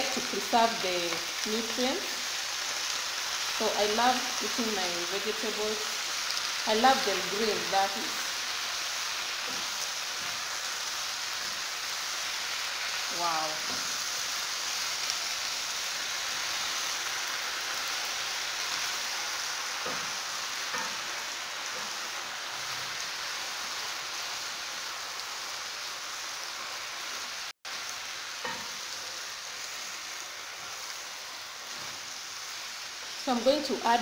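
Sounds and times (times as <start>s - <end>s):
spinach sizzling in oil: 0.0s - 34.0s.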